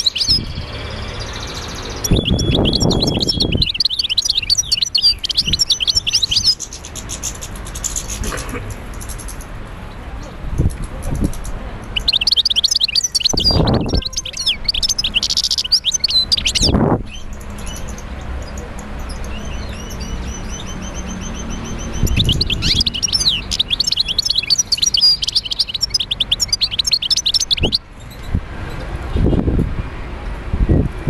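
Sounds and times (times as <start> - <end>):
small birds chirping: 0.0 - 29.4.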